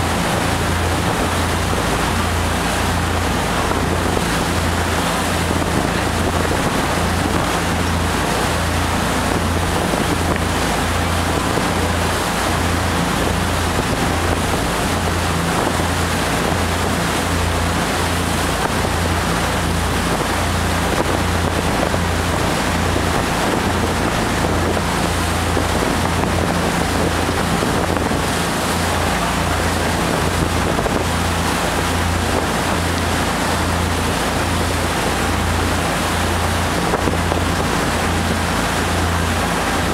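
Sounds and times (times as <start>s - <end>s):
boat engine droning: 0.0s - 39.9s
rushing water: 0.0s - 39.9s
wind on microphone: 0.0s - 39.9s.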